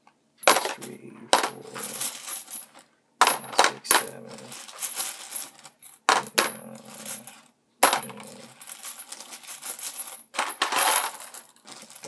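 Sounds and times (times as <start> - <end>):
metal cases clinking in plastic tub: 0.4 - 12.0.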